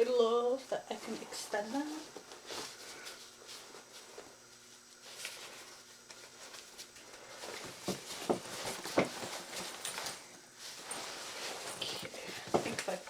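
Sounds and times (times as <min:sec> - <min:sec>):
handbag rustling: 0:01.1 - 0:13.0.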